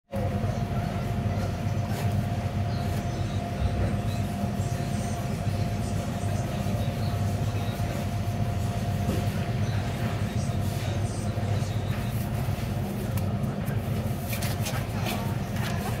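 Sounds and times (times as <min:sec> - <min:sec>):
low machine rumble: 0:00.1 - 0:16.0.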